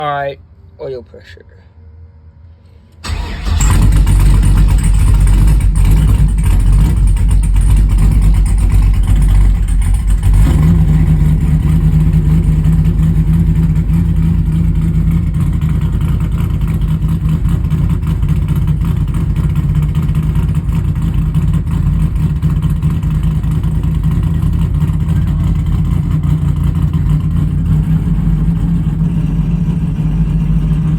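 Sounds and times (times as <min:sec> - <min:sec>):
dragster engine starting and idling: 0:03.0 - 0:30.9.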